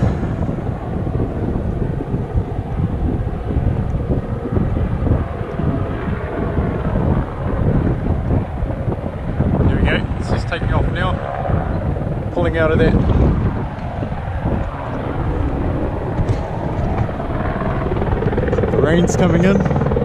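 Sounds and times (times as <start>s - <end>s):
helicopter engine and rotor: 0.0s - 20.0s
wind buffeting microphone: 0.0s - 20.0s.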